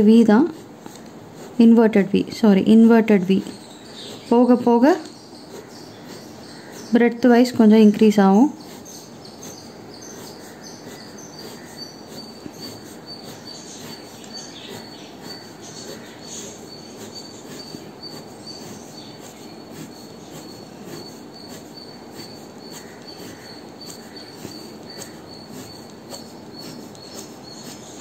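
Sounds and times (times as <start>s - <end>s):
pen scratching on paper: 0.0s - 28.0s.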